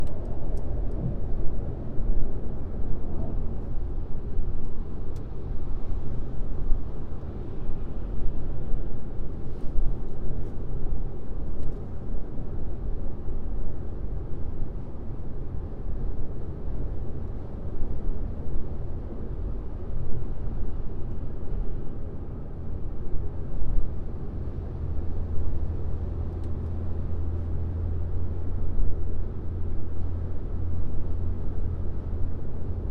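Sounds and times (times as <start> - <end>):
road and tyre rumble: 0.0 - 32.9.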